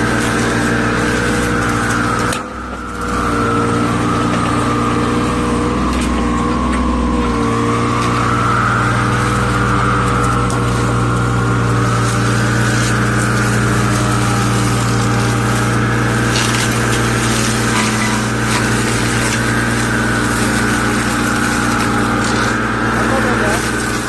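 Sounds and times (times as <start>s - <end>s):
excavator engine drone with whine: 0.0s - 24.0s.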